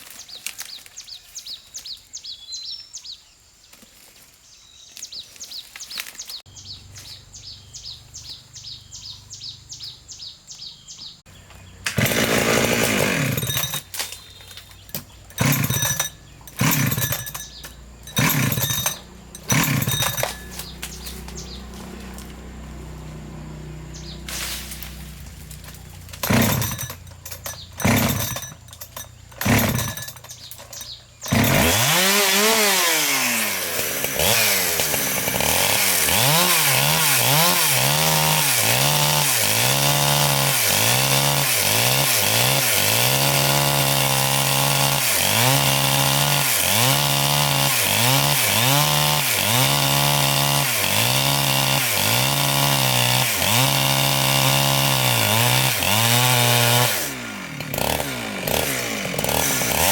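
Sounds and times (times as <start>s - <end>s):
chainsaw cutting wood: 11.6s - 59.9s.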